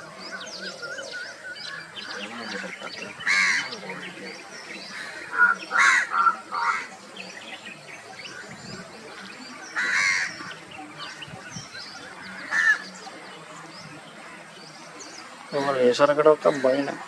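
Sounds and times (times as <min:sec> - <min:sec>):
birds chirping and calling: 0:00.0 - 0:17.0
harsh bird calls: 0:00.0 - 0:17.0.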